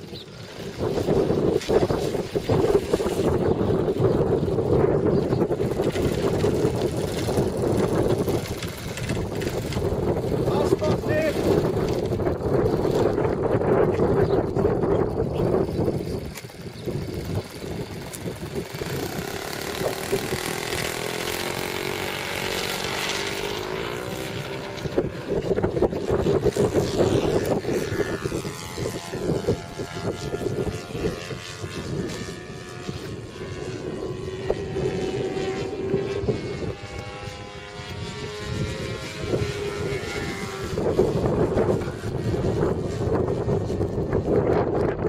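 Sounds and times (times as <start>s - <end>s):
model plane engine droning: 0.0s - 45.0s
wind noise on microphone: 0.0s - 45.0s.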